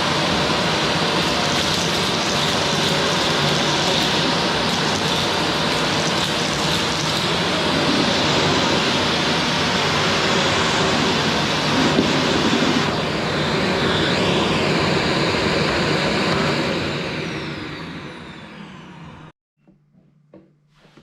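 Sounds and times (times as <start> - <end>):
vacuum cleaner running: 0.0 - 19.4.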